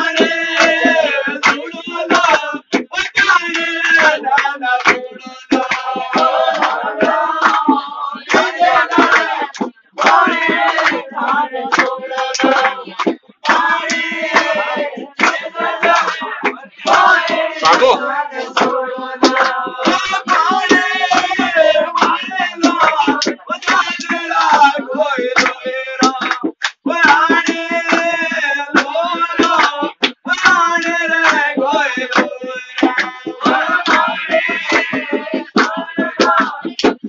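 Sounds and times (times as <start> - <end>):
hand clapping: 0.0 - 37.0
men singing folk song: 0.0 - 37.0.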